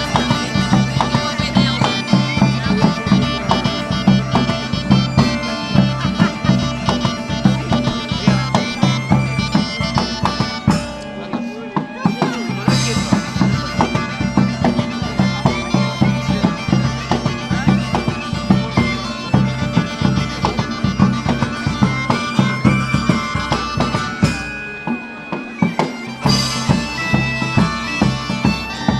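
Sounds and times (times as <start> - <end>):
bagpipe melody with drone: 0.0 - 28.9
drum beats: 0.0 - 28.9.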